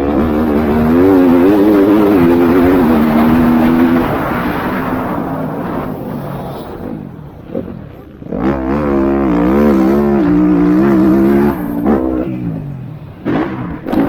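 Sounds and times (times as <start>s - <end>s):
motocross bike engine: 0.0s - 14.0s.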